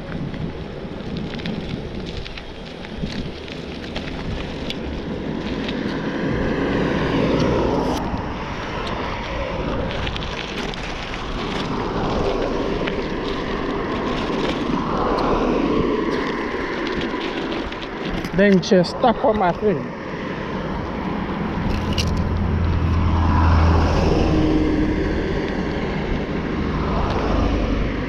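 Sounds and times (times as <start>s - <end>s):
vehicles passing: 0.0s - 28.0s
wind noise on microphone: 0.0s - 28.0s.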